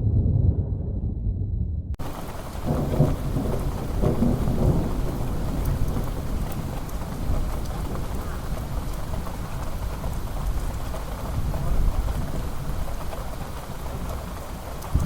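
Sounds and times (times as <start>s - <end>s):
thunder rumbling: 0.0s - 15.0s
steady rain: 2.0s - 15.0s.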